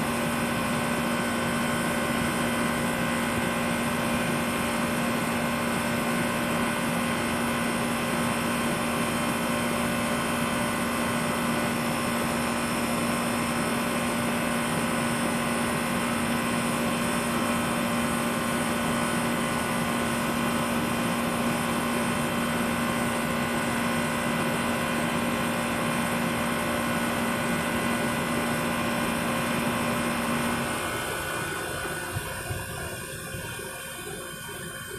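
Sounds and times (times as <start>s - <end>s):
heat pump humming: 0.0s - 34.9s.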